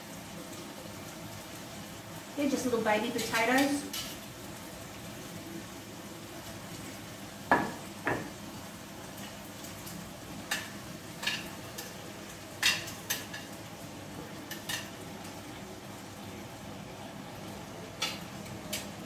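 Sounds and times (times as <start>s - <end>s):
pot sizzling: 0.0s - 19.0s.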